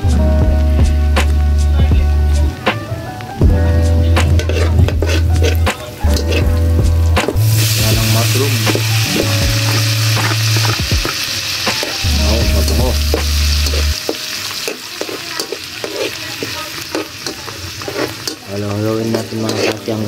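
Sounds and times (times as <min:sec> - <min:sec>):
mushrooms sizzling in hot oil: 0:00.0 - 0:20.0
metal spatula scraping wok: 0:03.9 - 0:20.0.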